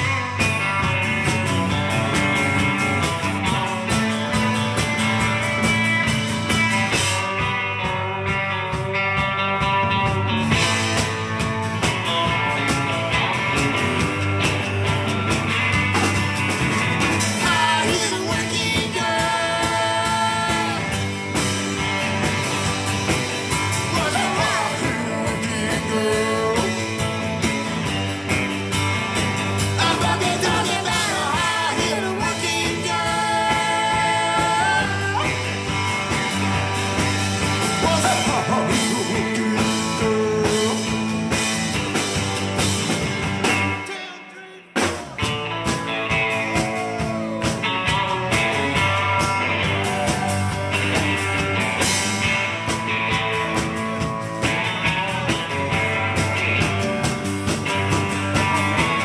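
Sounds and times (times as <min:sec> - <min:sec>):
guitar lead with bending notes: 0:00.0 - 0:59.0
live rock and roll band: 0:00.0 - 0:59.0.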